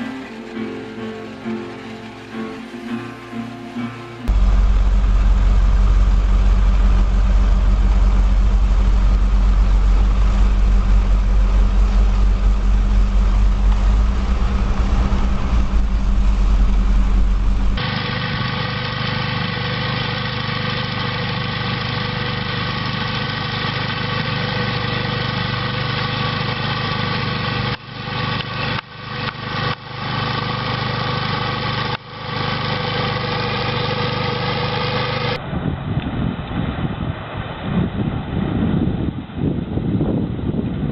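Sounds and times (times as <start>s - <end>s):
higher engine hum: 0.0s - 38.3s
machine engine deep rumble: 0.0s - 40.9s.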